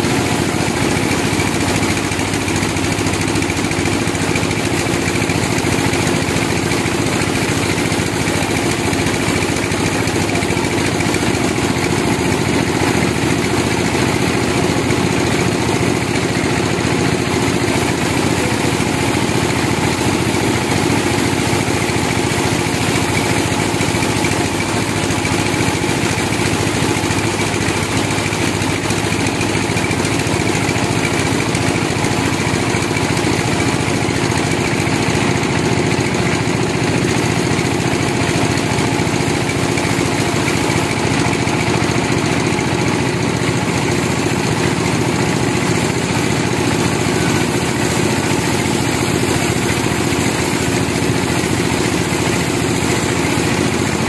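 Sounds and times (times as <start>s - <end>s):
band sawmill sawing log: 0.0s - 54.0s.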